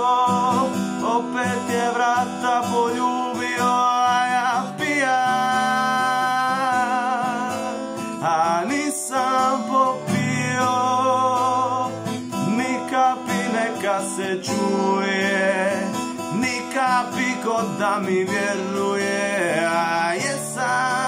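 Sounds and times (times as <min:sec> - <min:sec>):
acoustic guitar strumming: 0:00.0 - 0:21.0
man singing: 0:00.0 - 0:21.0.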